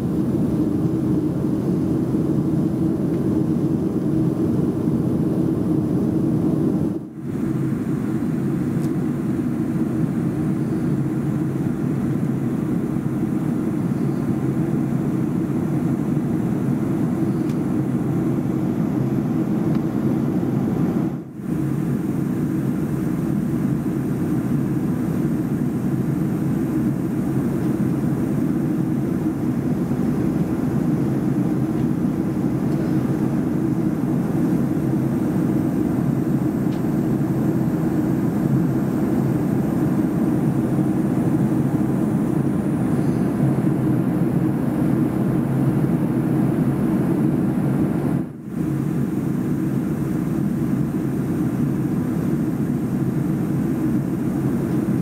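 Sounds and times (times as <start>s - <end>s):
airplane cabin hum: 0.0s - 55.0s.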